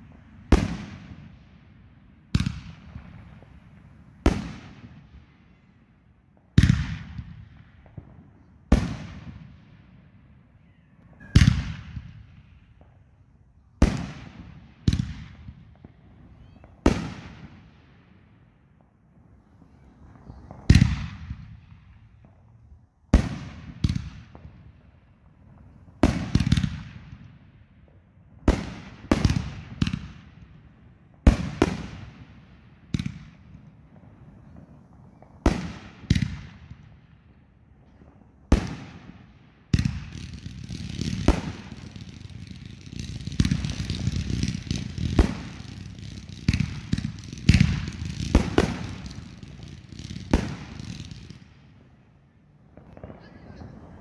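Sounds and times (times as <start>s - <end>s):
fireworks bangs with echo: 0.0s - 54.0s.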